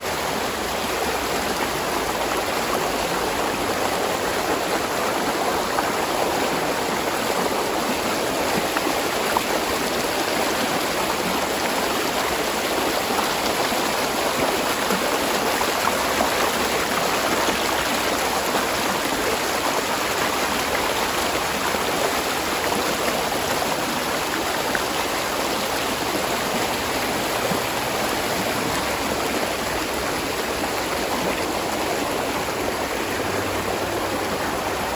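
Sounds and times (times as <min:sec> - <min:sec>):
water splashing over rocks: 0:00.0 - 0:34.9.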